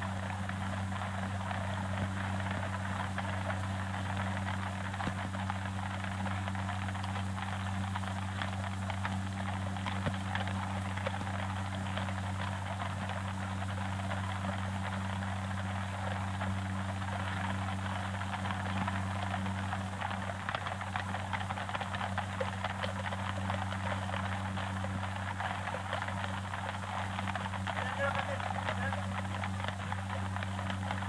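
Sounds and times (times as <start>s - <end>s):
film soundtrack crackle and hiss: 0.0s - 31.0s.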